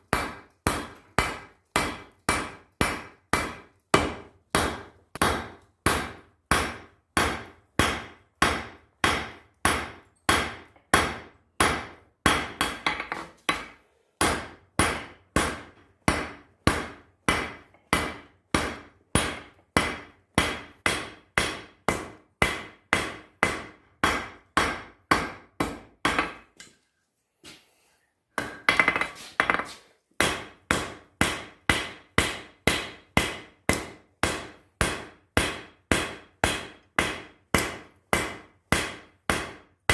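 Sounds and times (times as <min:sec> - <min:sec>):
hammer striking steel on anvil: 0:00.1 - 0:26.5, 0:28.4 - 0:39.9.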